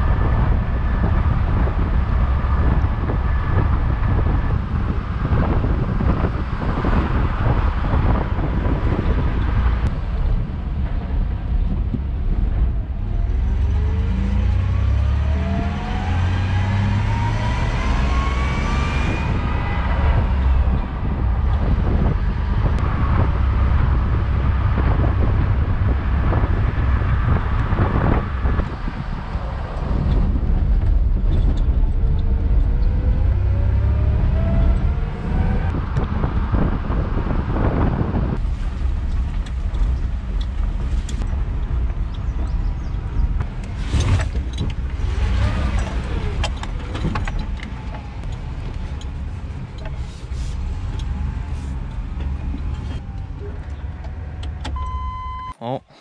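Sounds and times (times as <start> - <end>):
pickup truck engine accelerating: 0.0 - 55.3
wind and road noise: 0.0 - 55.6.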